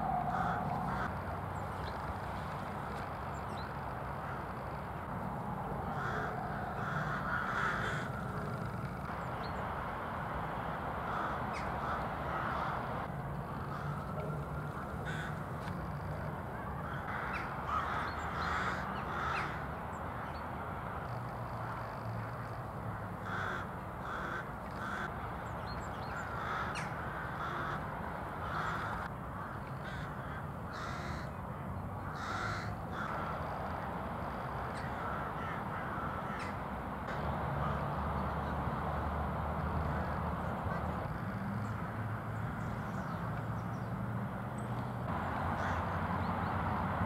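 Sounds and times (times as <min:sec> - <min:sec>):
crows cawing: 0:00.0 - 0:09.2, 0:11.0 - 0:38.6, 0:39.7 - 0:43.9, 0:45.4 - 0:46.0.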